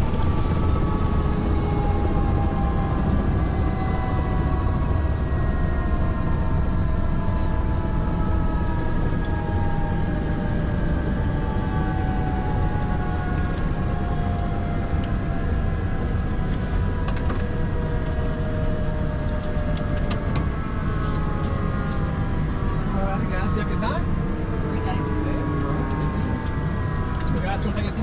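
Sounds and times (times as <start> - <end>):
helicopter engine and rotor drone: 0.0 - 28.0
turbine whine: 0.0 - 28.0.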